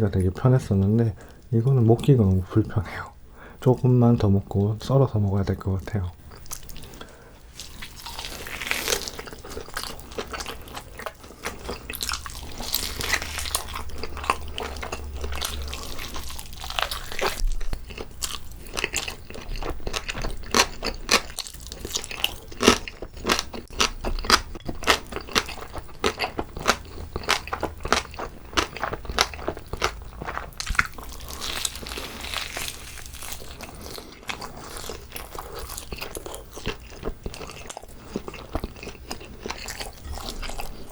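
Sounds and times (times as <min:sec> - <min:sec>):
biting and chewing: 0:06.2 - 0:40.9.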